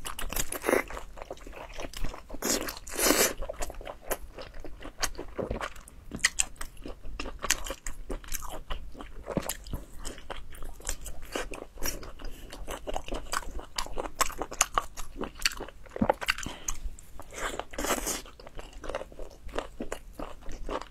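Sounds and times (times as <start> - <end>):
chewing and biting: 0.0 - 20.9.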